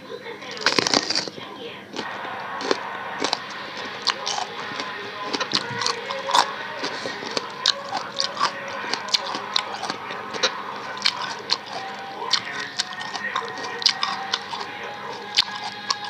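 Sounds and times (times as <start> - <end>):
wet chewing and mouth noises: 0.4 - 16.0.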